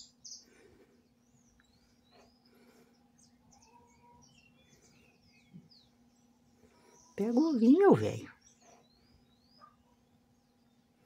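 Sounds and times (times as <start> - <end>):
faint bird chirps: 0.0 - 11.0
faint low hum: 0.0 - 11.0.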